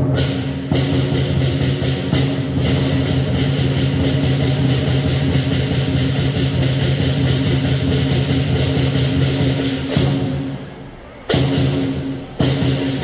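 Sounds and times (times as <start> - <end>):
cymbals clashing: 0.0 - 13.0
drum roll: 0.0 - 13.0.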